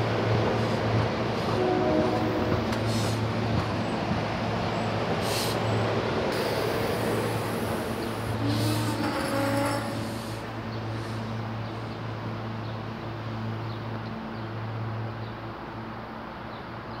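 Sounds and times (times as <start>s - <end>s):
electric train rumble: 0.0s - 16.9s.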